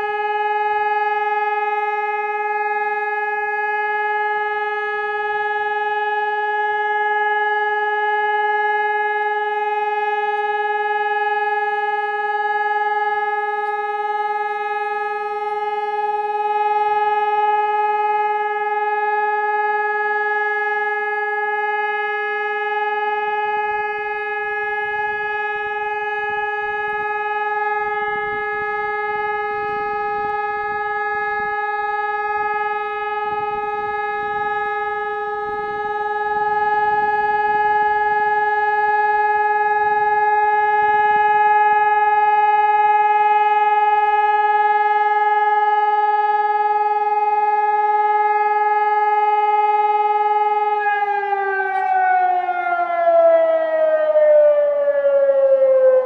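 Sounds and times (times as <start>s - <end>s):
siren steady tone: 0.0s - 56.0s.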